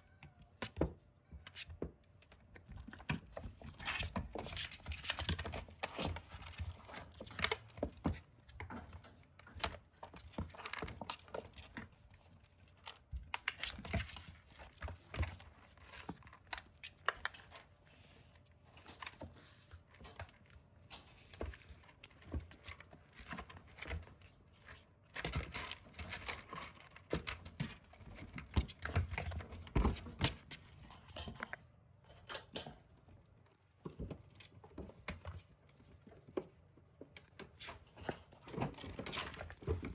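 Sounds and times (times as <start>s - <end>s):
kittens' paws pattering and scrabbling: 0.0s - 39.9s.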